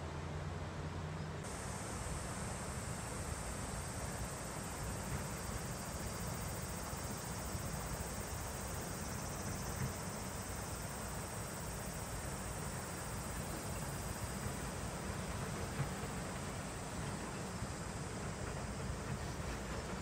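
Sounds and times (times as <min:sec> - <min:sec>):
insects chorus: 0:01.2 - 0:20.0.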